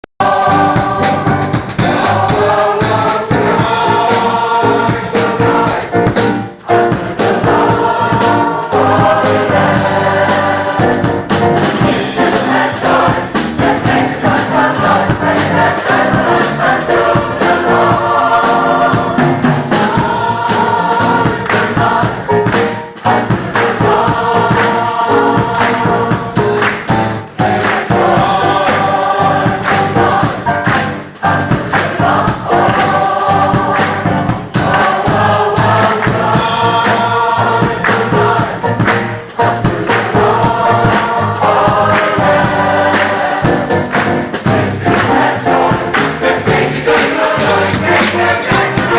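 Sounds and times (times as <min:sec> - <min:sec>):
gospel choir singing with band: 0:00.2 - 0:48.9.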